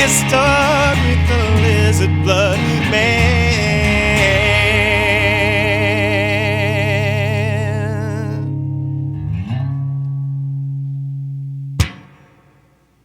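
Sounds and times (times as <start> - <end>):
guitar low note sliding upward: 0.0 - 12.1
guitar chord ringing with vibrato: 0.0 - 12.9.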